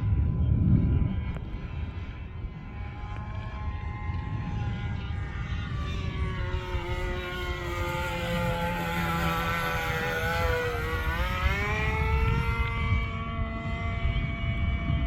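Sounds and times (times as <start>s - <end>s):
model plane engine at high revs: 1.4s - 15.0s.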